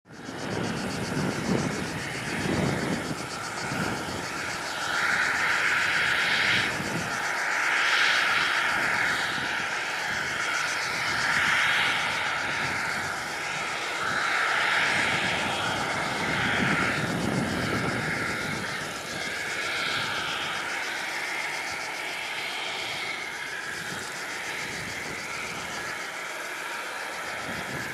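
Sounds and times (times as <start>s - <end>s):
jet engines roaring: 0.1s - 27.9s.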